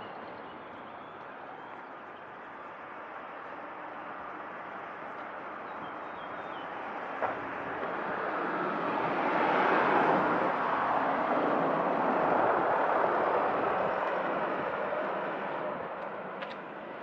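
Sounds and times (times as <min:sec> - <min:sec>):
vehicle driving on asphalt: 0:00.0 - 0:17.0.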